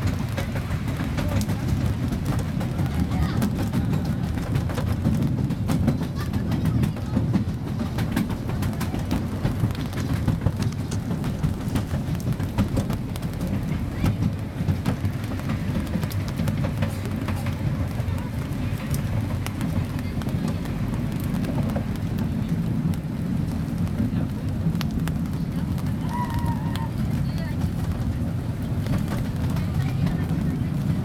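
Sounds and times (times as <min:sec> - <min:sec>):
small train rumbling: 0:00.0 - 0:31.0
train rattles and clicks: 0:00.0 - 0:31.0.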